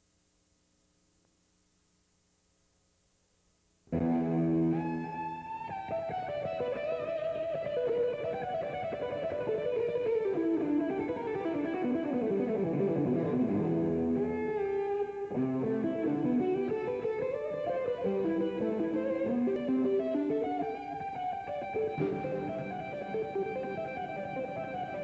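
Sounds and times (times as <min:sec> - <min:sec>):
guitar instrumental music: 0:03.9 - 0:25.0.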